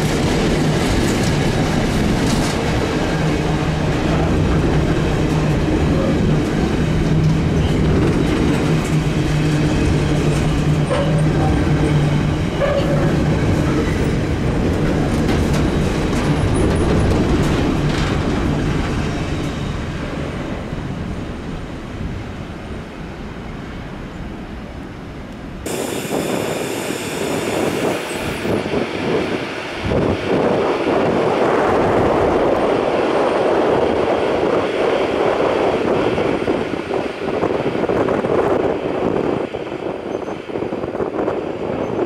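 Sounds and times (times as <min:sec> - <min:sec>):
train wheels rushing on rails: 0:00.0 - 0:42.0.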